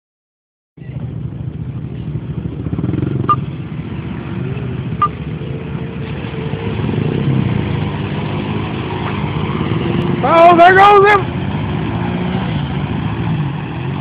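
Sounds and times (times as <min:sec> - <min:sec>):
atv engine running: 0:00.8 - 0:14.0.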